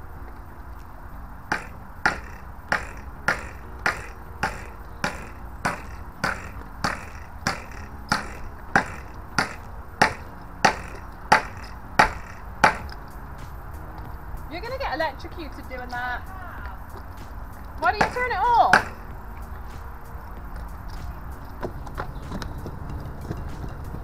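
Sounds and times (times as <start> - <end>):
electric fence clicking: 0.2 - 24.0.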